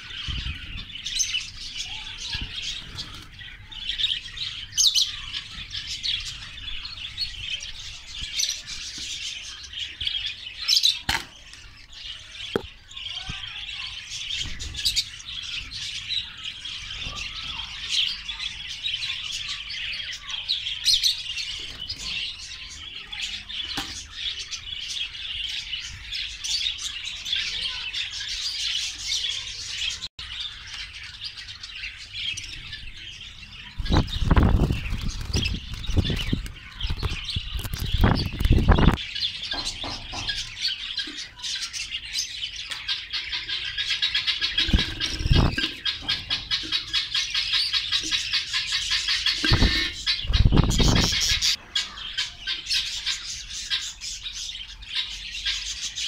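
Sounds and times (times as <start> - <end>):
budgerigars chattering: 0.0 - 56.0.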